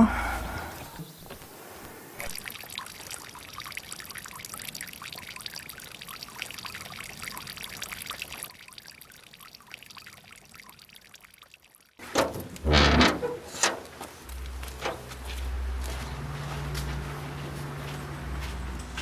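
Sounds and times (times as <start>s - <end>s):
water trickling and pouring: 2.1s - 19.0s.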